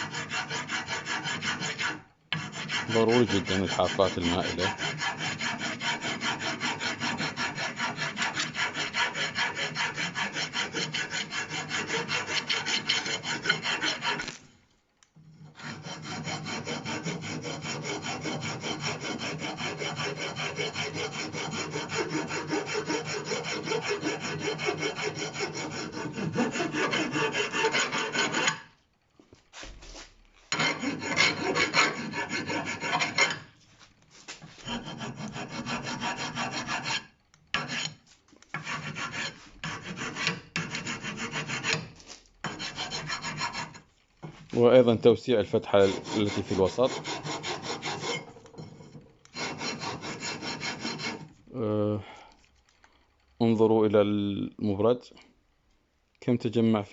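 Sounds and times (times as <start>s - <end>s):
file rasping on brake pad: 0.0s - 14.3s, 15.4s - 28.7s, 30.5s - 33.5s, 34.3s - 44.4s, 45.7s - 51.4s.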